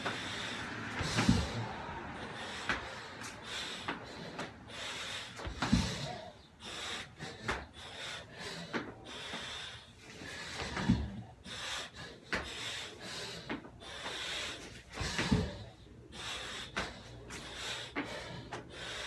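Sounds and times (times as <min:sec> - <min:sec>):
hard rapid gasping breaths: 0:00.0 - 0:19.0.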